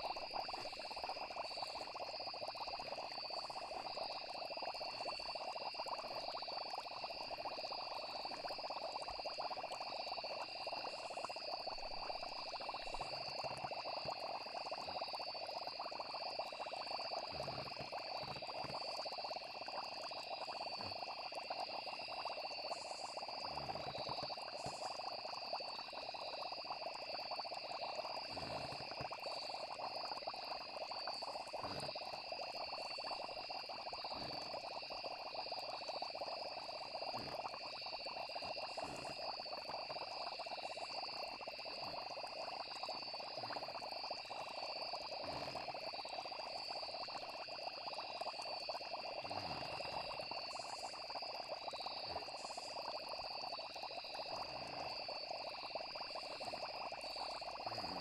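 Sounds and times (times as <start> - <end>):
frogs chorus: 0.0 - 58.0
insects trilling: 0.0 - 58.0.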